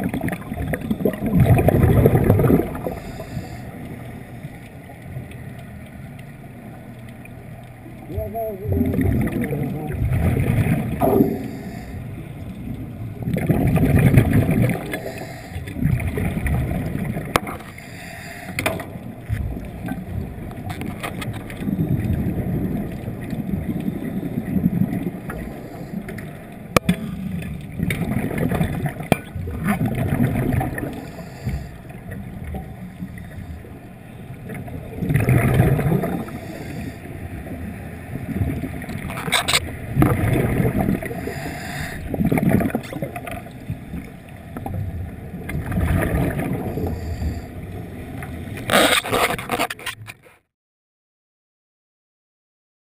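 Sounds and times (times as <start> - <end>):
exhaled air bubbling underwater: 0.0 - 49.6
steady underwater rush: 0.0 - 49.8.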